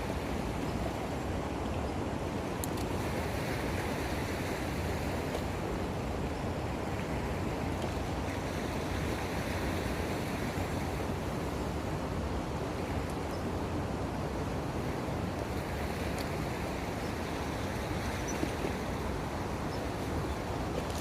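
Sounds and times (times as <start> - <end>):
sea waves: 0.0 - 21.0
wind: 0.0 - 21.0.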